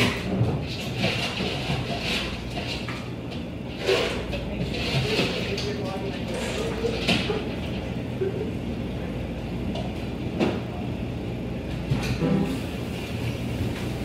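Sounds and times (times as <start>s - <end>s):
low room noise rumble: 0.0s - 14.0s.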